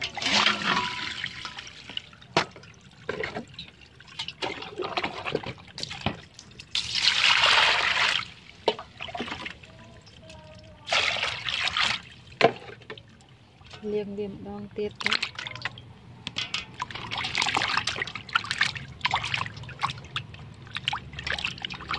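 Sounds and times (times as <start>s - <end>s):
water pouring into metal basin: 0.0s - 10.2s, 10.8s - 13.9s, 16.4s - 21.9s
water trickling: 0.0s - 21.9s.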